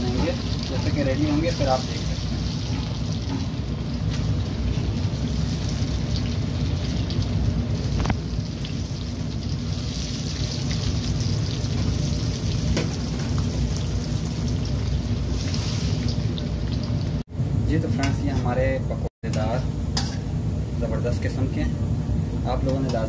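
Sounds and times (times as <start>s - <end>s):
hot oil sizzling and crackling: 0.0s - 23.0s.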